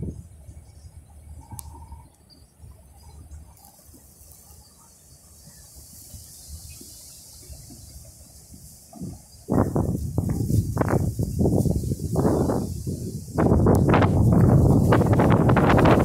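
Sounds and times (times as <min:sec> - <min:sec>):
distant freight train rumble: 0:00.0 - 0:16.0
insect chorus: 0:00.0 - 0:16.0.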